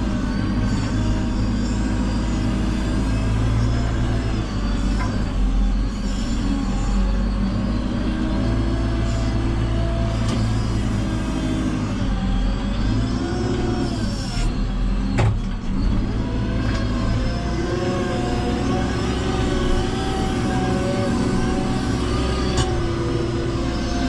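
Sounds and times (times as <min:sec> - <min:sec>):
diesel engine working under load: 0:00.0 - 0:24.0.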